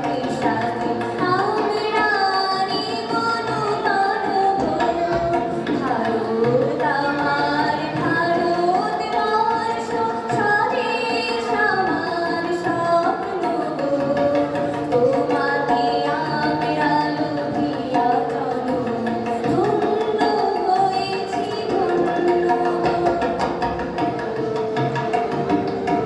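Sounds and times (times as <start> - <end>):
woman singing: 0.0 - 23.7
harmonium: 0.0 - 26.0
tabla played by hand: 0.0 - 26.0.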